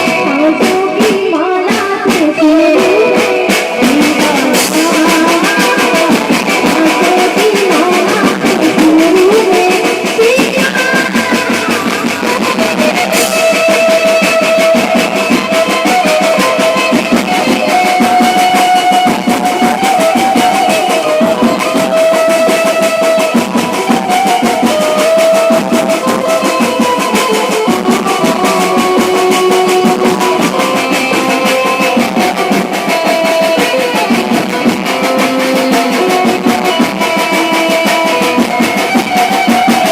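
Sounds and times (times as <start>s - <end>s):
band music: 0.0s - 39.9s
drums keeping a steady beat: 0.0s - 39.9s.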